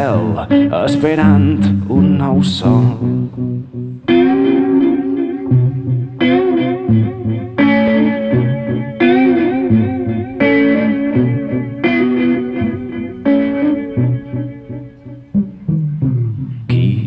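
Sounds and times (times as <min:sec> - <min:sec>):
guitar chords ringing: 0:00.0 - 0:17.0
low bass notes: 0:00.0 - 0:17.0.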